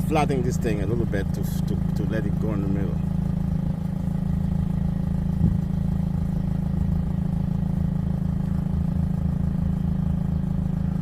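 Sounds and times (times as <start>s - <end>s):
idling motor drone: 0.0s - 11.0s.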